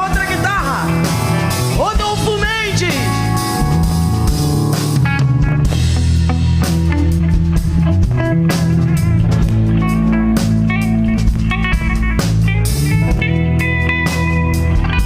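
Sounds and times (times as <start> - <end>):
bass guitar: 0.0 - 15.0
drum kit beat: 0.0 - 15.0
electric guitar melody: 0.0 - 15.0.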